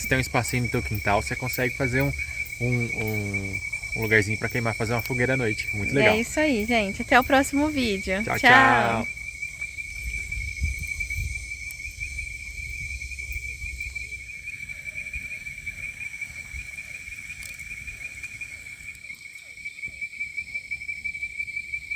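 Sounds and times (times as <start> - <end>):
cricket trilling: 0.0 - 21.9.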